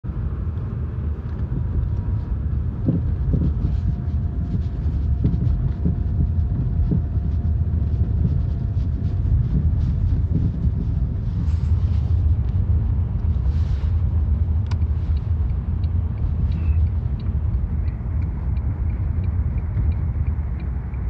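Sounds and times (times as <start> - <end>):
car low rumble: 0.0 - 21.0.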